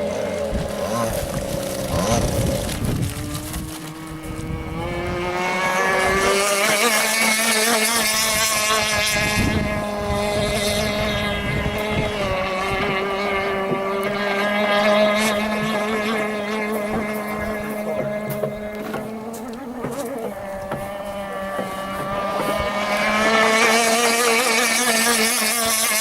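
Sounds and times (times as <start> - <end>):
lower engine tone: 0.0 - 26.0
model boat engine buzzing whine: 0.0 - 26.0.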